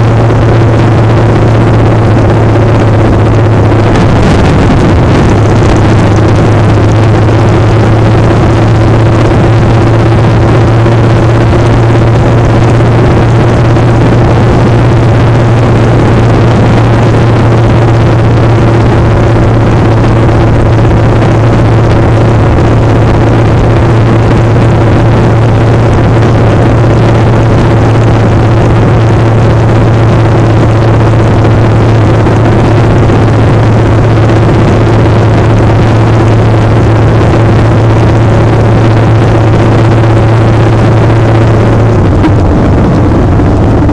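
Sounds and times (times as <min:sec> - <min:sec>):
motorcycle engine droning: 0:00.0 - 0:43.9
wind on microphone: 0:00.0 - 0:43.9.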